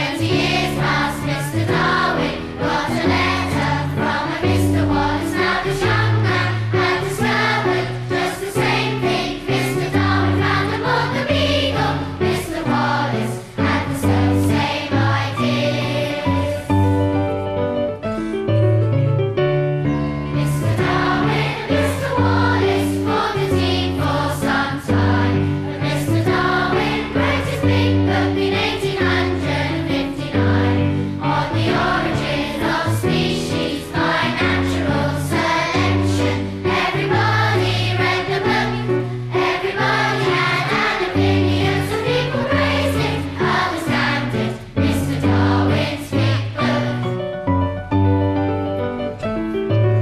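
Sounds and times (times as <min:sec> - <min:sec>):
children's choir singing: 0:00.0 - 0:17.2, 0:20.3 - 0:47.3
instrumental accompaniment with bass: 0:00.0 - 0:50.0.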